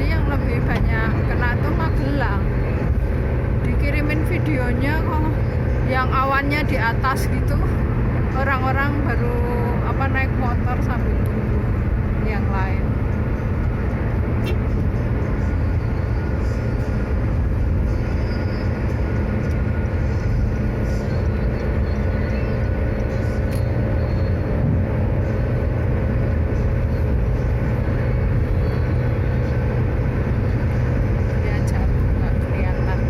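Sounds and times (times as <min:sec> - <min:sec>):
vehicle tyre and engine rumble: 0:00.0 - 0:33.0.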